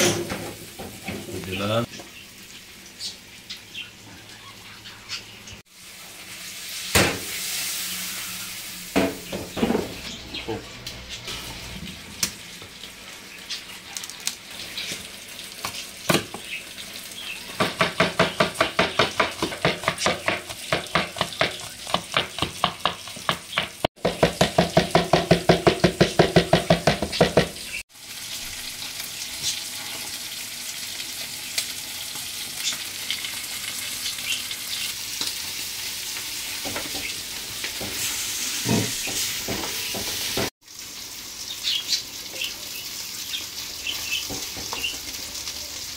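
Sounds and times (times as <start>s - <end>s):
chicken sizzling in a pan: 5.6s - 24.1s, 26.6s - 45.9s.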